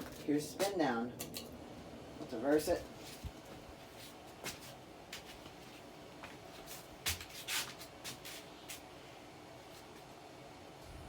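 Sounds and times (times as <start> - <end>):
ceiling fan hum: 0.0 - 11.0.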